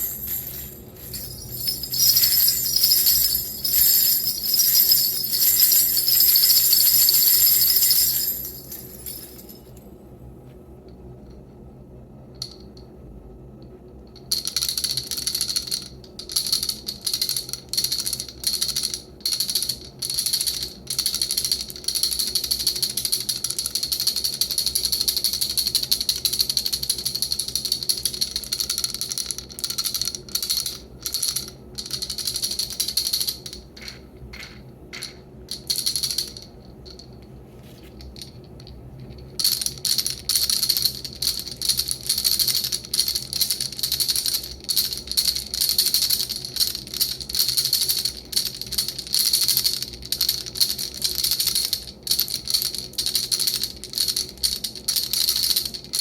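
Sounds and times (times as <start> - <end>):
wooden baby rattle shaken: 0.0 - 9.8, 14.4 - 56.0.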